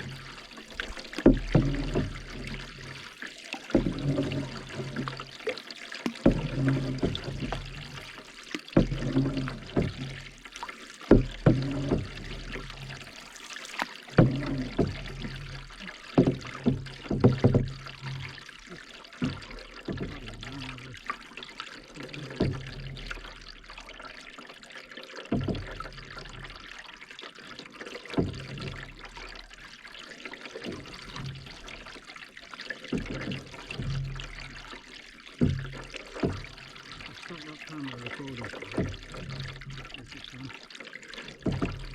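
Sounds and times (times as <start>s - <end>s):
paddle knocks: 0.0s - 24.1s, 25.3s - 26.6s, 27.9s - 41.9s
water splashing off paddle: 0.0s - 41.9s.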